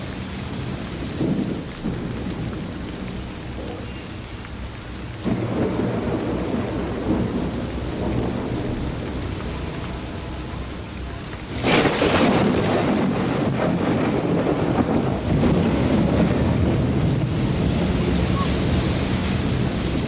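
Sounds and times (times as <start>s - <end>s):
rain falling: 0.0s - 20.0s
thunderclap rumbling: 0.0s - 20.0s.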